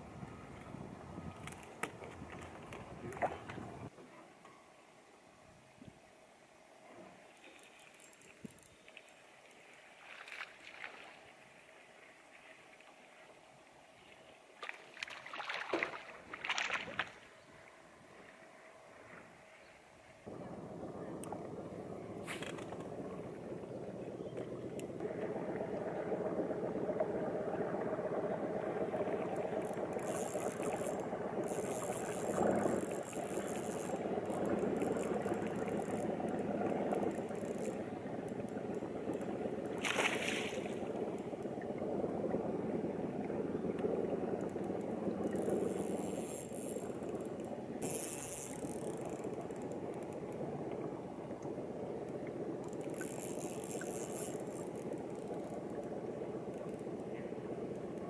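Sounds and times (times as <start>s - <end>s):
water lapping against boat hull: 0.5s - 3.9s, 14.1s - 19.4s, 20.2s - 58.0s.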